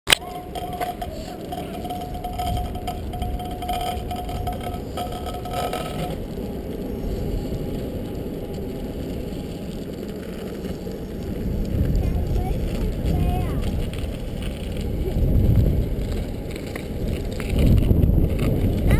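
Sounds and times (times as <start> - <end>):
scooter wheels rolling on asphalt: 0.0 - 18.9
thin steady whine: 0.1 - 18.9.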